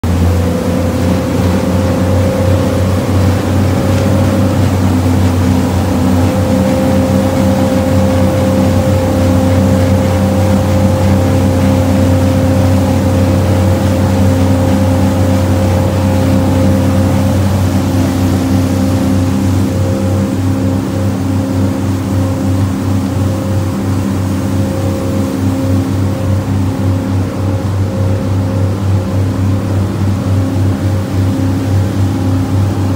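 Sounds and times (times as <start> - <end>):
boat engines droning: 0.0 - 32.9
rush of wake and wind: 0.0 - 32.9.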